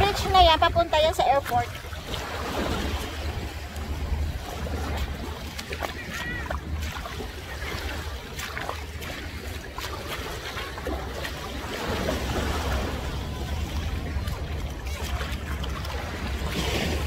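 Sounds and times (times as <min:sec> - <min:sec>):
small waves lapping on shore: 0:00.0 - 0:17.0
steady low rumble: 0:00.0 - 0:17.0.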